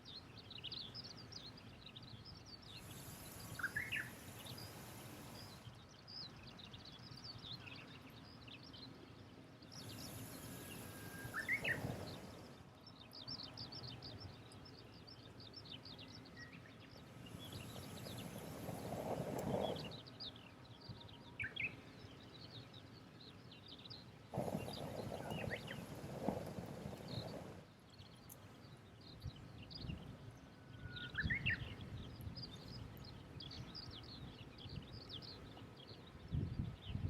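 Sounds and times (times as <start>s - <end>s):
faint outdoor background: 0.0s - 37.0s
small birds chirping: 0.0s - 37.0s.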